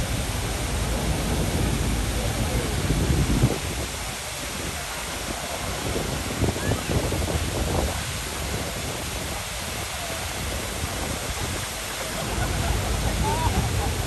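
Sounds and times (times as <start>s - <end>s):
low rumbling gusts: 0.0s - 14.0s
rushing wash of noise: 0.0s - 14.0s
faint voices: 0.1s - 14.0s.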